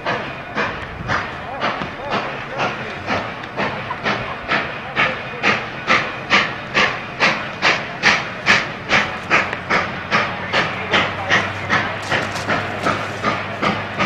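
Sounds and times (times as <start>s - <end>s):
steam locomotive chuffing: 0.0s - 14.0s.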